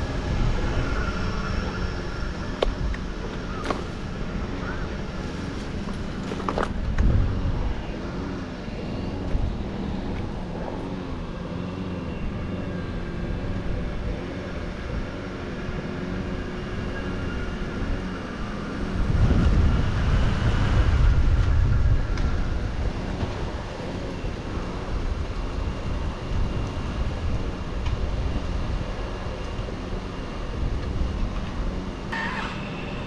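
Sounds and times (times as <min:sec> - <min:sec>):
large engine pulsing hum: 0:00.0 - 0:33.0.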